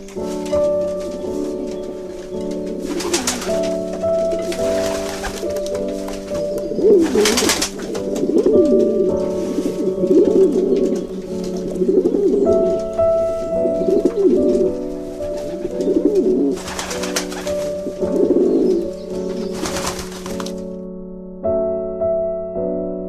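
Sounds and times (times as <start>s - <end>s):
rustling: 0.0s - 18.2s, 18.9s - 20.7s
background music with held notes: 0.0s - 23.0s
pigeons cooing: 1.0s - 20.4s.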